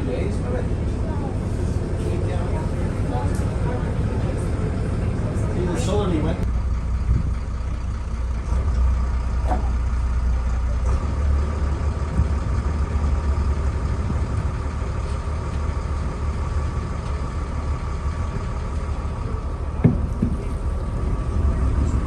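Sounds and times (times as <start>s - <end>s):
engine low hum: 0.0s - 22.0s.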